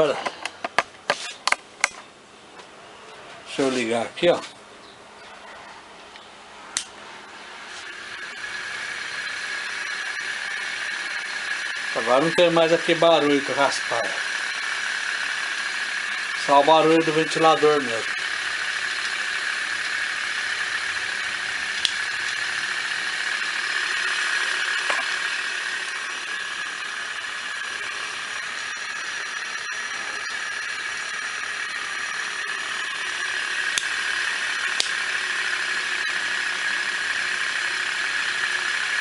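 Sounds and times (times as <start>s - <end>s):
ceiling fan motor whirring: 5.8s - 39.0s.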